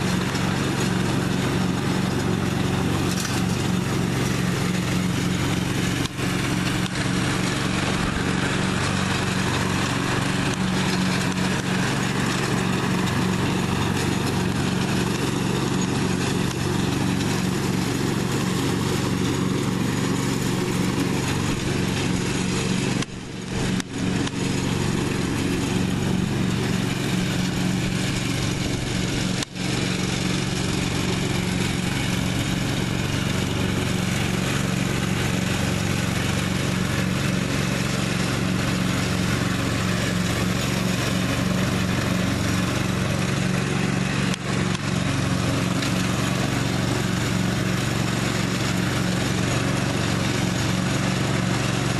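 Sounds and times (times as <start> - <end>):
riding lawn mower engine running: 0.0 - 51.9.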